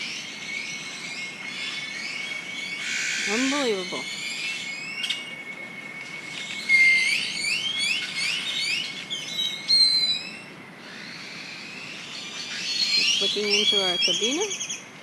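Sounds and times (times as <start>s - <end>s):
birds whistling: 0.0s - 14.9s.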